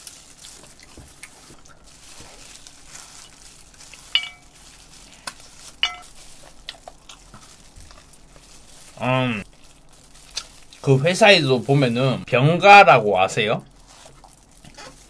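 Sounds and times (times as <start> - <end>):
chewing fried chicken: 0.0 - 11.9, 13.6 - 15.0
faint crackle: 0.0 - 12.0, 13.6 - 15.0.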